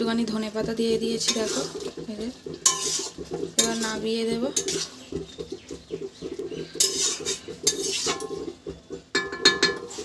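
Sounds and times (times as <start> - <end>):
metal cookware clattering: 0.1 - 10.0.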